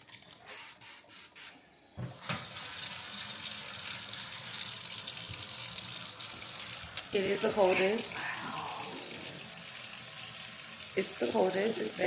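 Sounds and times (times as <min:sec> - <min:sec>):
faucet running into sink: 0:02.3 - 0:12.0.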